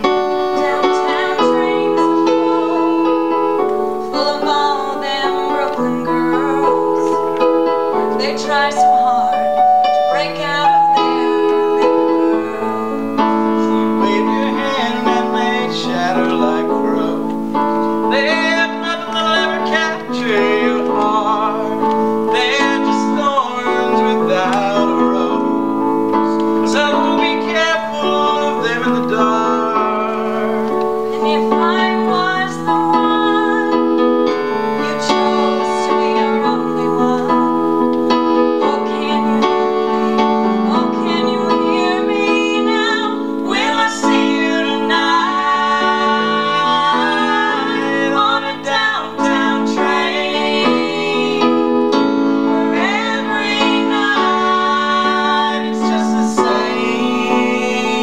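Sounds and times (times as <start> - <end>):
piano chords with wavering melody: 0.0 - 58.0.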